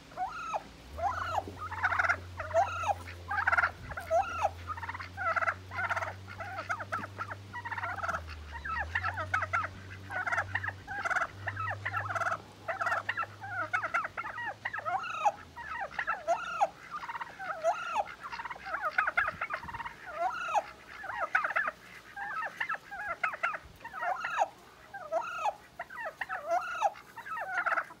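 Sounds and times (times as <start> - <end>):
low steady hum: 0.0 - 28.0
turkey hen harsh calls: 0.0 - 28.0.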